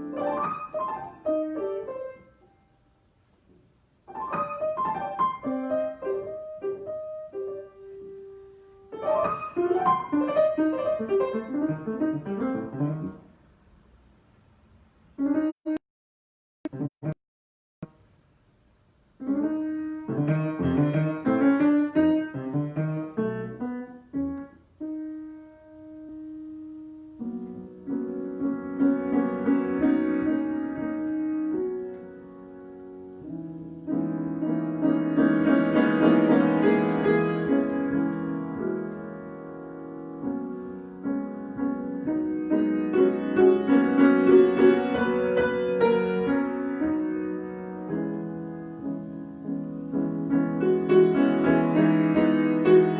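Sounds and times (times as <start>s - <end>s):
piano improvisation: 0.0s - 13.5s, 19.1s - 52.9s.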